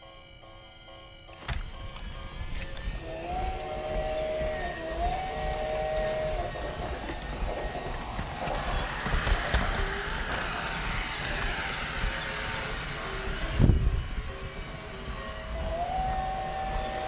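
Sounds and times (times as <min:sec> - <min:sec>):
wheels clicking on track: 0:01.2 - 0:17.0
toy train motor whirring: 0:01.3 - 0:17.0.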